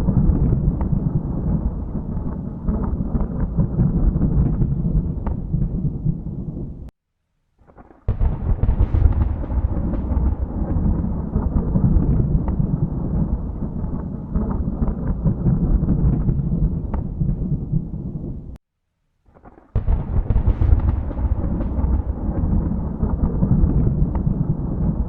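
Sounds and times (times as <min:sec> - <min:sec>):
sharp thunderclap: 0:00.0 - 0:06.9, 0:07.7 - 0:18.6, 0:19.4 - 0:25.0
thunder rumbling: 0:00.0 - 0:06.9, 0:07.7 - 0:18.6, 0:19.8 - 0:25.0.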